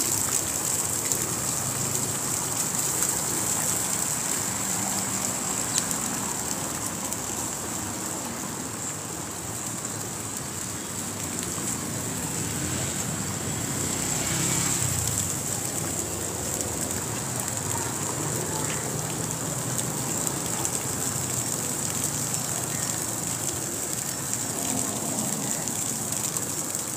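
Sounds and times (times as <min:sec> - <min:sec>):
spraying water hiss: 0:00.0 - 0:26.9
traffic running past: 0:00.0 - 0:26.9.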